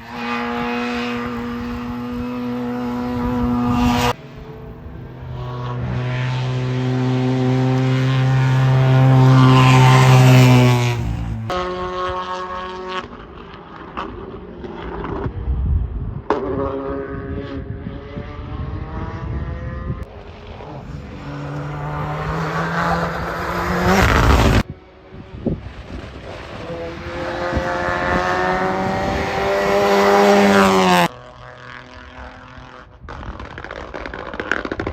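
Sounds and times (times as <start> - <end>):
race car engines at high revs: 0.0 - 34.9.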